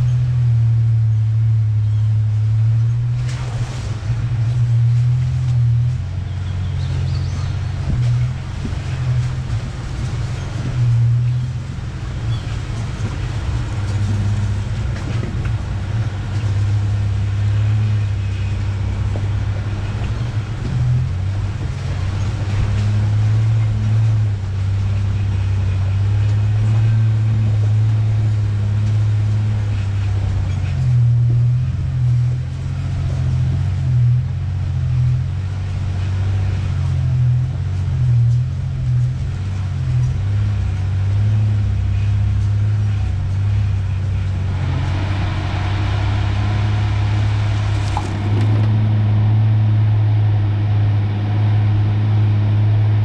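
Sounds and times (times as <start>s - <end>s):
truck knocks and rattles: 0.0s - 50.5s
truck engine droning: 0.0s - 53.0s.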